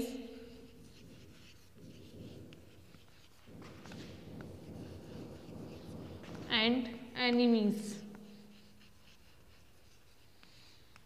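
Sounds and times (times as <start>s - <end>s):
chalk scratching on blackboard: 0.0s - 11.0s.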